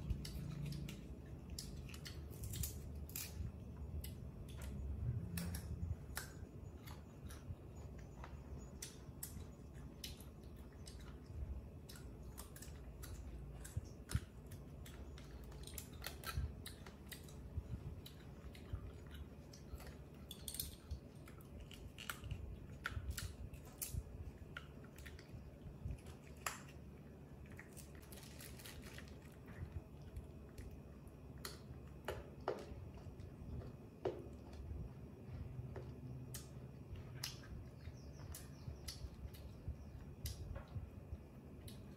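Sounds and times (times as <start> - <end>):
faint low room hum: 0.0 - 41.9.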